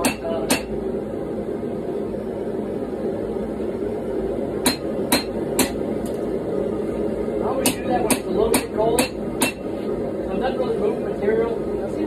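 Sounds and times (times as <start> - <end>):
gas forge burner roar: 0.0 - 12.0.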